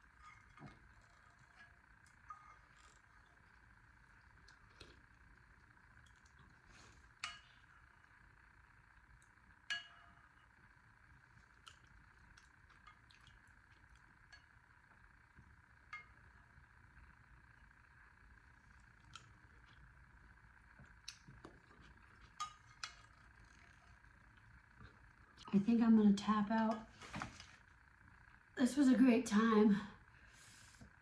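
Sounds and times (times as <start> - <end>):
faint room hum: 0.0 - 31.0.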